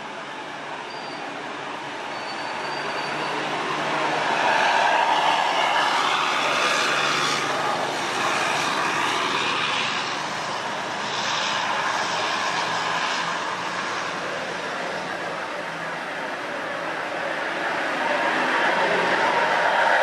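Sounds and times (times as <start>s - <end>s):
diesel coaches passing: 0.0s - 20.0s.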